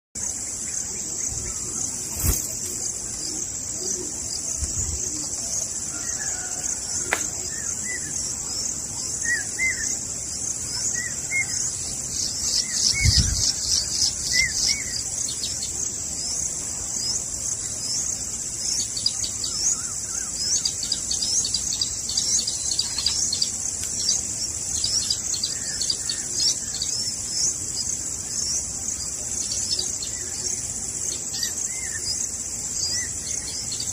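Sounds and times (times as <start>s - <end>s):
birds chirping: 0.2s - 33.9s
insects droning: 0.2s - 33.9s.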